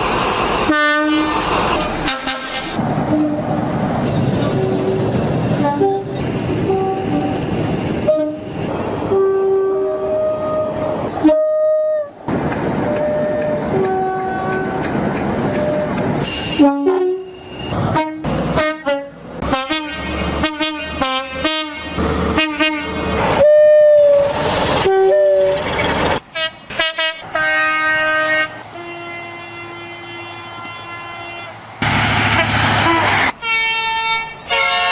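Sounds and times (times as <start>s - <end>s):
passing trains: 0.0s - 34.9s
two-tone train horns: 0.6s - 3.6s, 4.4s - 7.4s, 8.0s - 8.5s, 9.1s - 12.2s, 12.8s - 14.9s, 15.5s - 25.6s, 26.3s - 31.6s, 32.2s - 34.9s.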